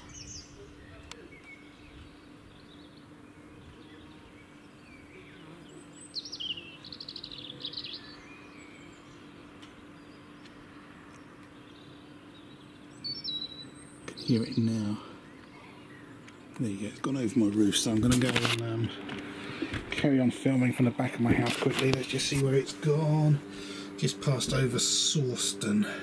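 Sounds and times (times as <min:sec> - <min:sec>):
songbird chirping: 0:00.0 - 0:25.7.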